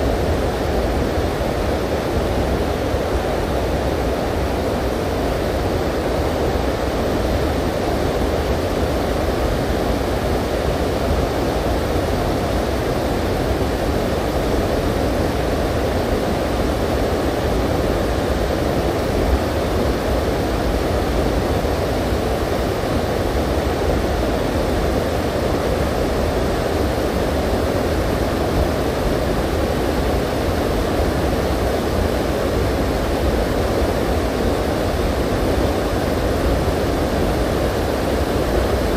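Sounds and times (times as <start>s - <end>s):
river current rushing: 0.0s - 38.9s.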